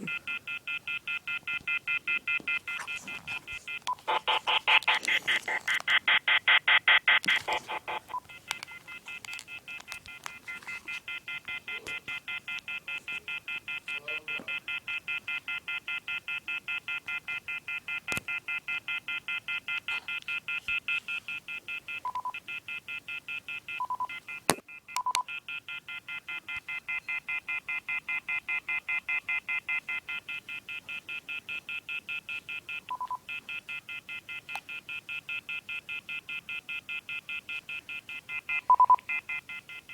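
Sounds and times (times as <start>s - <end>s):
touch-tone beeps: 0.0s - 39.9s.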